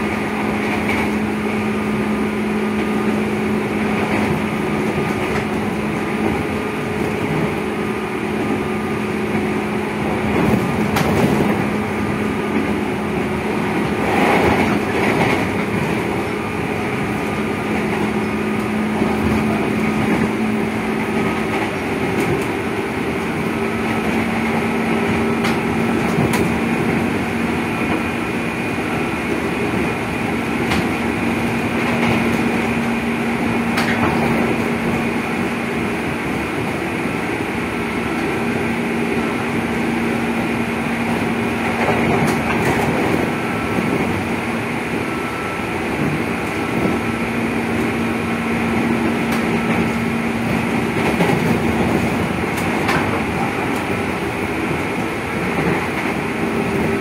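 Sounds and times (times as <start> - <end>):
rail joint clicks: 0.0 - 57.0
train motor and gear hum: 0.0 - 57.0
wheel-on-rail rumble: 0.0 - 57.0.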